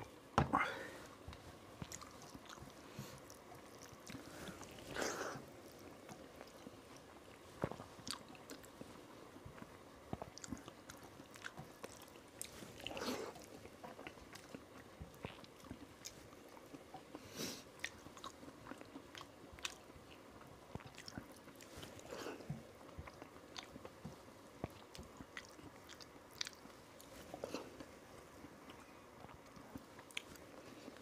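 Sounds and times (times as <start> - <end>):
faint chewing: 0.0 - 31.0.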